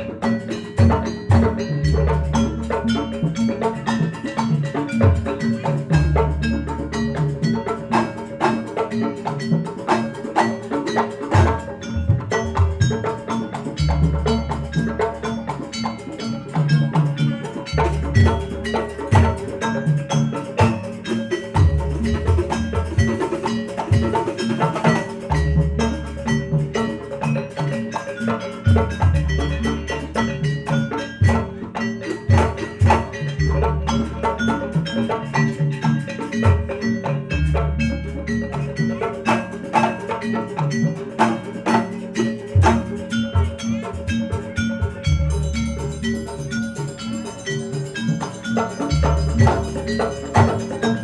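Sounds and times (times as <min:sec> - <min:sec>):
gamelan music: 0:00.0 - 0:51.0.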